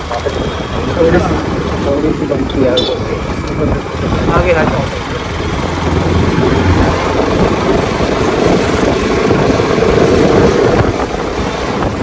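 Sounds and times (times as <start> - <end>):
wind over microphone: 0.0 - 12.0.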